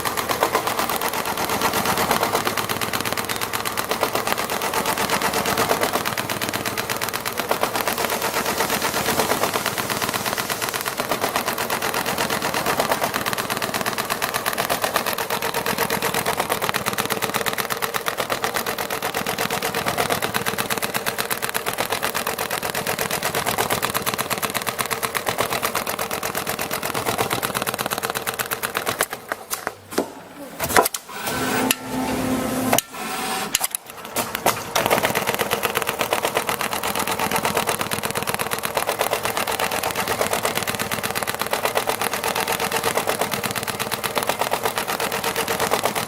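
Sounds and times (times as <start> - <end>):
sewing machine stitching: 0.0 - 46.0.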